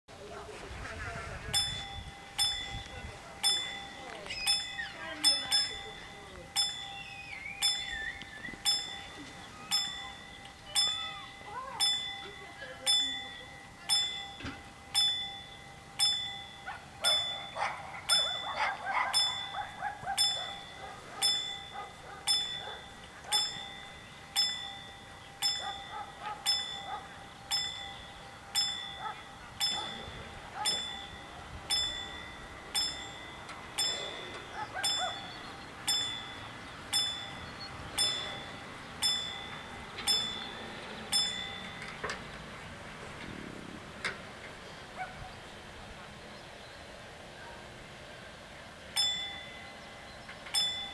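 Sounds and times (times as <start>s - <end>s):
level crossing warning bells: 1.5s - 50.9s.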